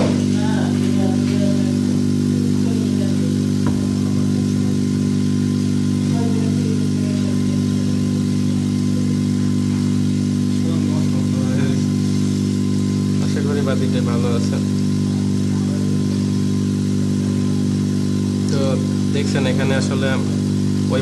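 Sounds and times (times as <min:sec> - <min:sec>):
refrigerator compressor humming: 0:00.0 - 0:21.0.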